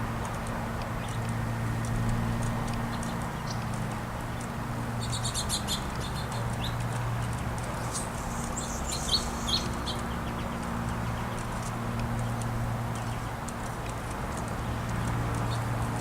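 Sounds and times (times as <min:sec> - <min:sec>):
steady low hum: 0:00.0 - 0:16.0
small songbirds chirping: 0:00.2 - 0:16.0.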